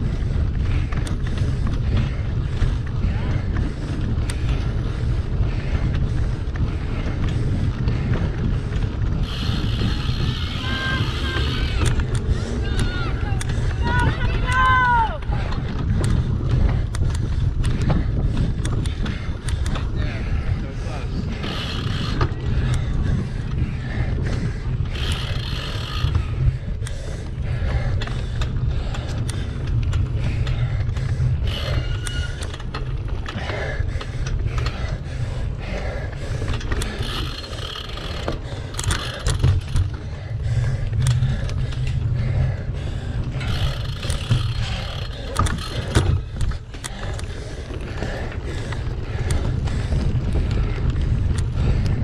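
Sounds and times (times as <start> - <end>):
bicycle rattling and knocking: 0.0 - 52.0
wind buffeting microphone: 0.0 - 52.0.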